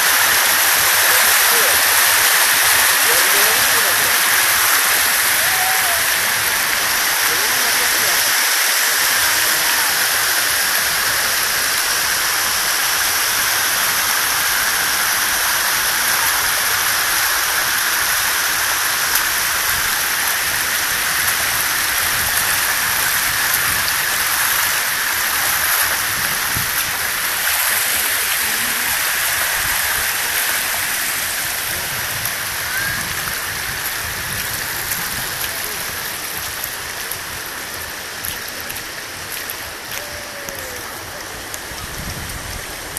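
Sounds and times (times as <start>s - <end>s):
water running over terraces: 0.0s - 42.9s.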